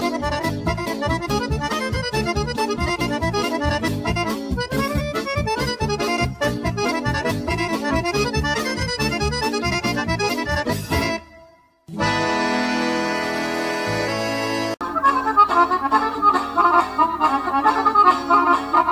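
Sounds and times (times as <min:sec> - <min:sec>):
fast folk dance tune on accordion: 0:00.0 - 0:18.9.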